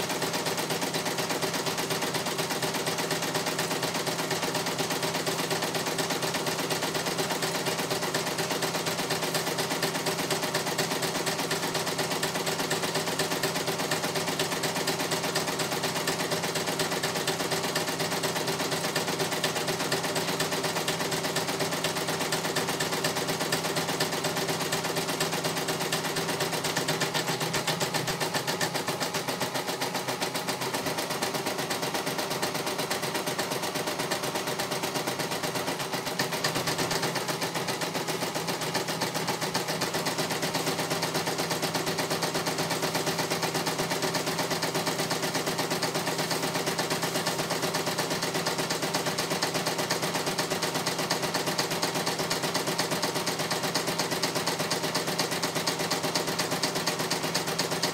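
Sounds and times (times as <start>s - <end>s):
embroidery machine stitching: 0.0s - 57.9s.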